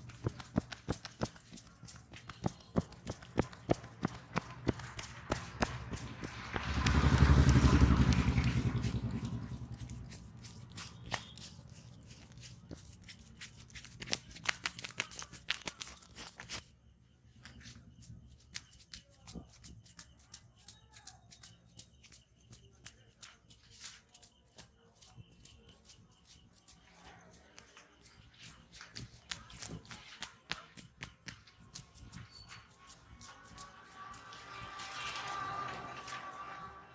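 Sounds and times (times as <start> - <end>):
hands slapping and tapping: 0.0 - 16.6, 17.4 - 36.2.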